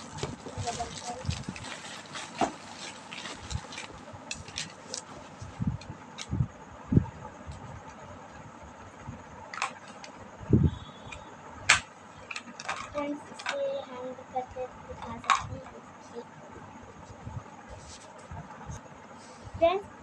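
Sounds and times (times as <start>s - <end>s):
low room noise: 0.0s - 20.0s.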